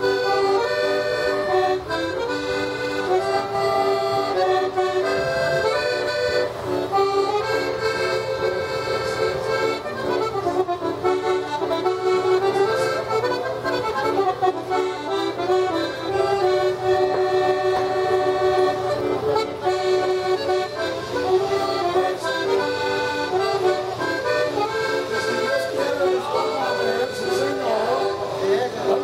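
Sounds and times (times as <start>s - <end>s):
accordion playing melody: 0.0s - 29.0s.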